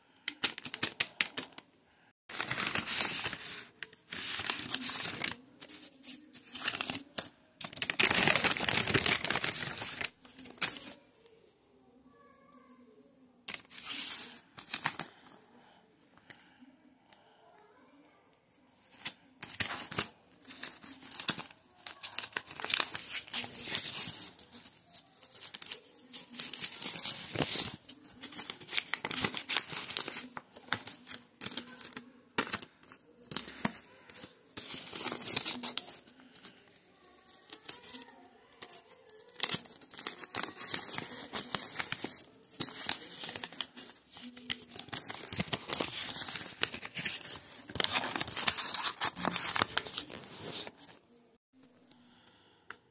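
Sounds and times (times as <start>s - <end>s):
paper rustling and crinkling: 0.2s - 1.6s, 2.3s - 11.0s, 13.4s - 15.4s, 18.8s - 51.1s.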